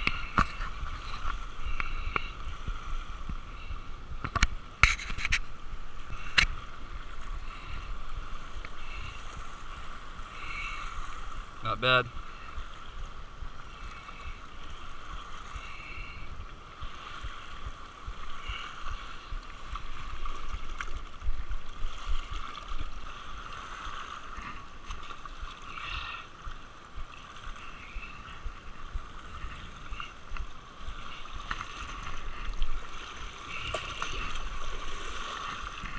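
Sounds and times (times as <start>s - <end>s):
small waves lapping on rocks: 0.0s - 35.9s
wind rumbling on microphone: 0.0s - 35.9s.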